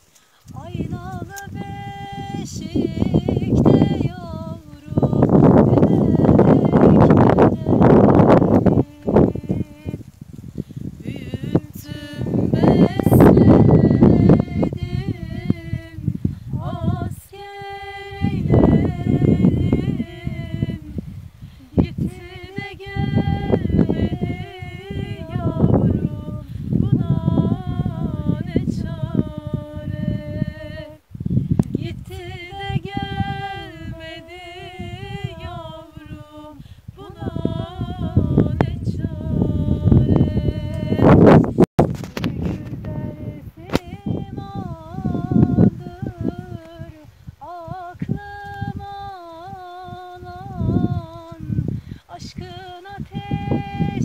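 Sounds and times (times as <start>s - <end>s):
wind rumble on microphone: 0.0s - 54.0s
woman singing long notes: 0.3s - 54.0s.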